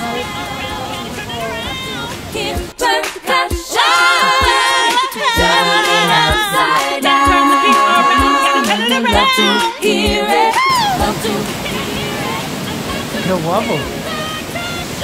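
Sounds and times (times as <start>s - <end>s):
running water rushing: 0.0s - 15.0s
song with vocals over a beat: 0.0s - 15.0s.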